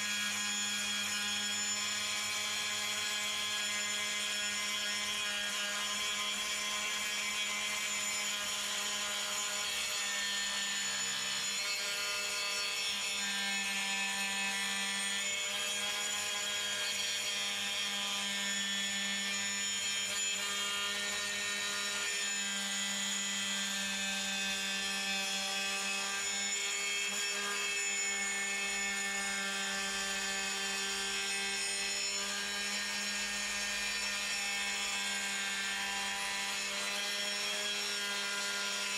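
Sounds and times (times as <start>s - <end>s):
tile saw cutting tile: 0.0s - 38.9s.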